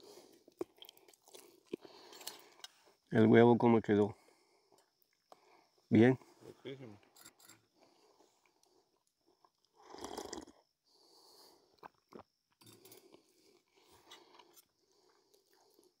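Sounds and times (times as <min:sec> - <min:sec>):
faint eating sounds: 0:00.0 - 0:03.2, 0:04.1 - 0:16.0.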